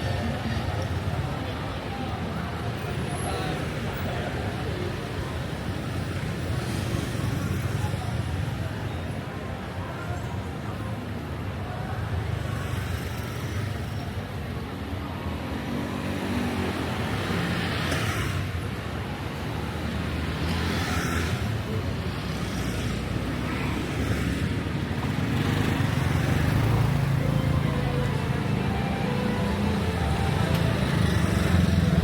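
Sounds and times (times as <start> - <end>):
motorbikes and cars running: 0.0 - 9.1, 15.2 - 32.0
vehicles passing by: 0.0 - 32.0.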